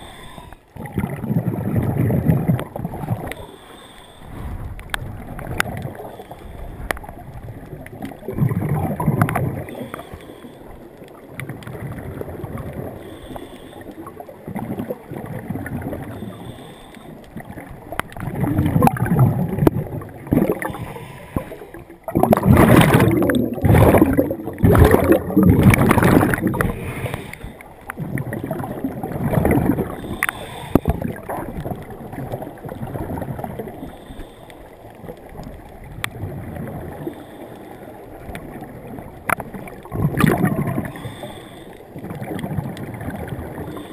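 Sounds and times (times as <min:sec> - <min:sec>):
muffled underwater bubbling: 0:00.0 - 0:43.9.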